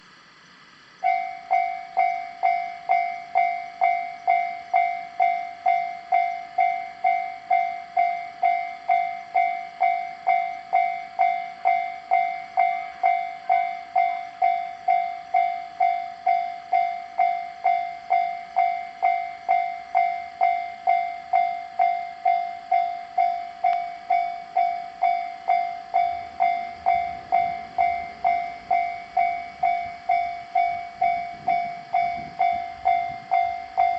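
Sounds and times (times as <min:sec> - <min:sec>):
level crossing bell ringing: 0:01.0 - 0:33.9.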